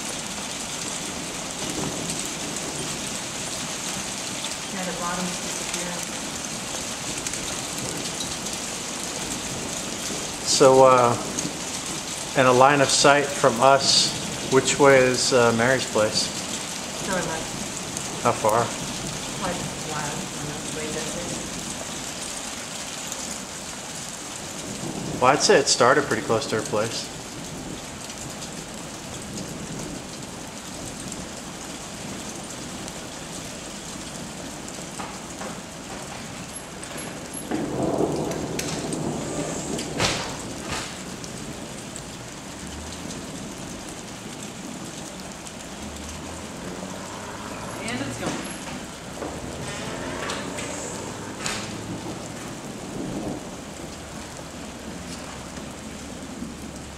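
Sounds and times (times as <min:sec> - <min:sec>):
storm rain hissing: 0:00.0 - 0:56.9
thunder rumble: 0:00.0 - 0:56.9.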